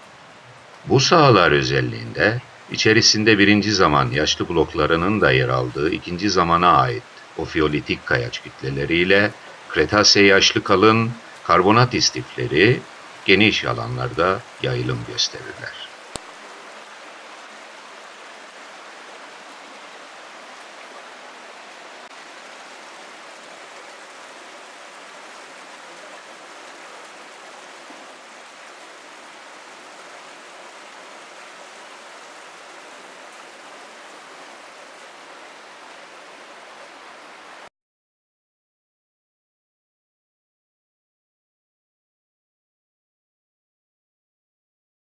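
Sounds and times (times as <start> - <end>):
stream running over rocks: 0.0 - 37.7.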